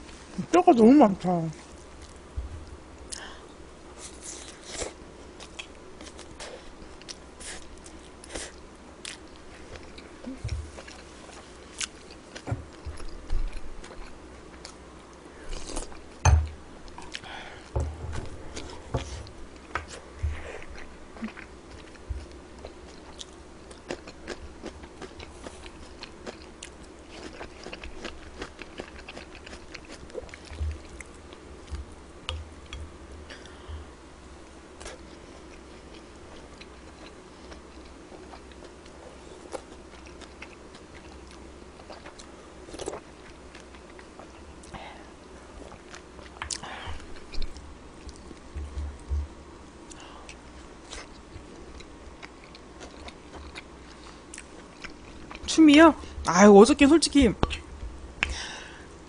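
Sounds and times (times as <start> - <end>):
person chewing food: 4.0 - 56.2.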